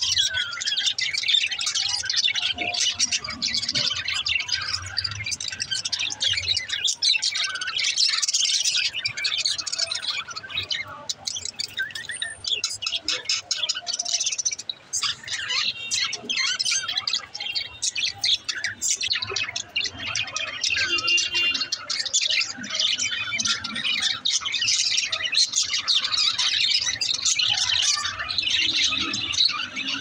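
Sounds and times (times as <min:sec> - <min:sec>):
flock of budgerigars chattering: 0:00.0 - 0:30.0.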